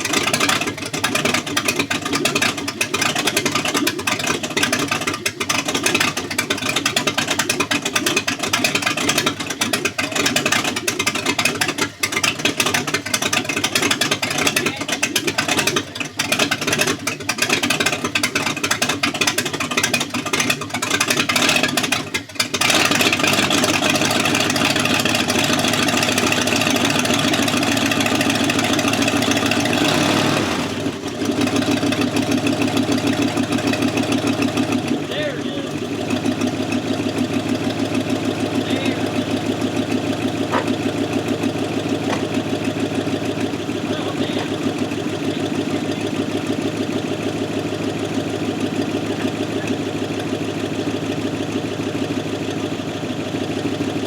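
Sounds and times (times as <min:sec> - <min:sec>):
car engine idling unevenly: 0:00.0 - 0:54.0.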